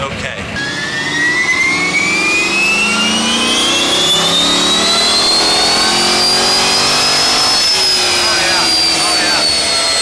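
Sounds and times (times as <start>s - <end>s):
car engine revving hard: 0.4s - 10.0s
high whine rising: 0.4s - 10.0s.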